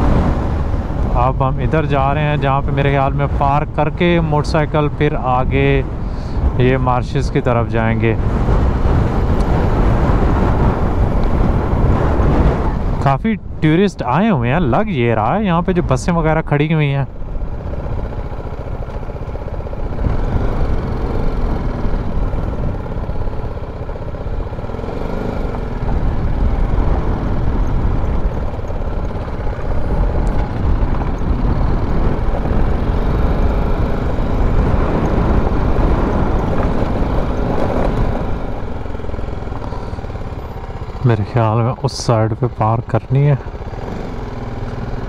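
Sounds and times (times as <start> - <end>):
motorcycle engine running: 0.0 - 45.0
road rumble: 0.0 - 45.0
wind: 0.0 - 45.0.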